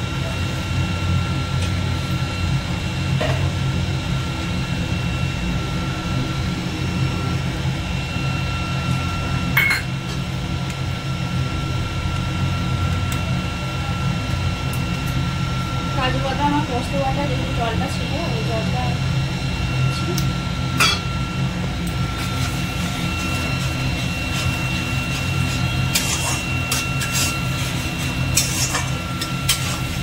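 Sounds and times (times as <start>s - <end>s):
electric motor humming and whining: 0.0s - 30.0s.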